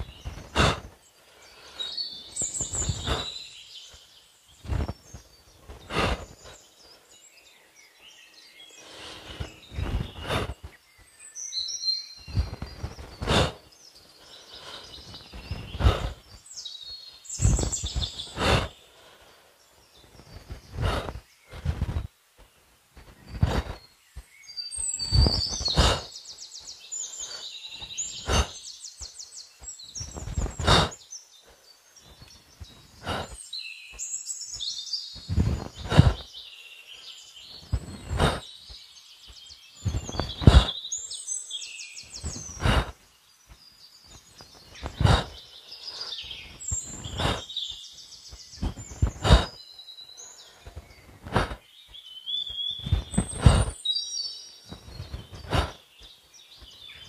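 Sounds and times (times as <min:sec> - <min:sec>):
forest birds singing: 0:00.0 - 0:57.0.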